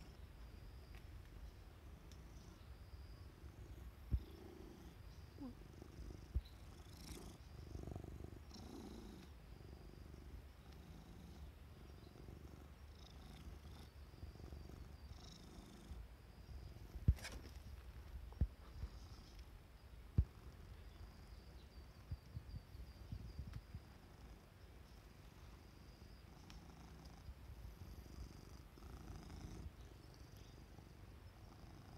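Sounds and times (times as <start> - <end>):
cat purring: 1.8 - 31.9.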